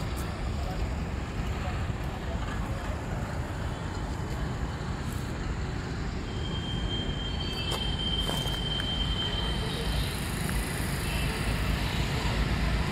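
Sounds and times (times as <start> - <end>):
low rumble of road traffic: 0.0 - 12.9.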